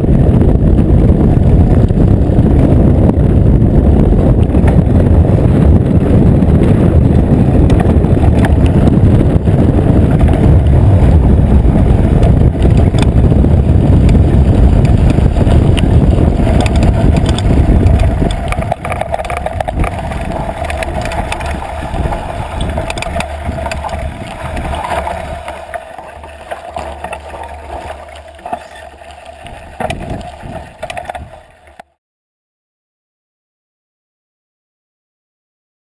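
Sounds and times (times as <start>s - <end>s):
bike tyres rumbling on gravel: 0.0s - 32.0s
gravel crunching under tyres: 0.0s - 32.0s
wind buffeting microphone: 0.0s - 32.0s.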